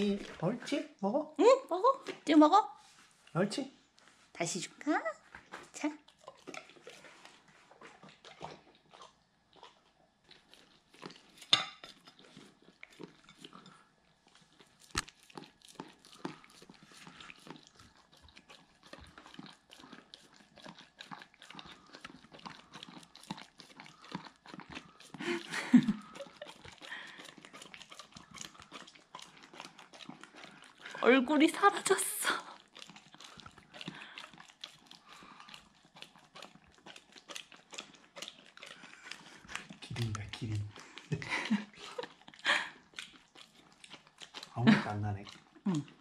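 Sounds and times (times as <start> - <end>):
dog licking and chomping: 0.0 - 0.9, 5.2 - 46.0.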